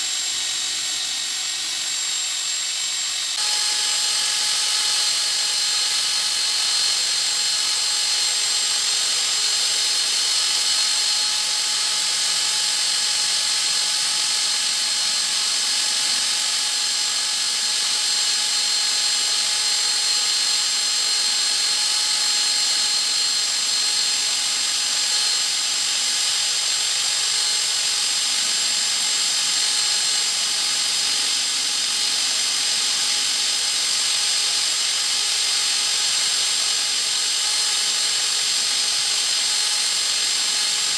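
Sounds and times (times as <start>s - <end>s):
power tool whining: 0.0s - 40.9s.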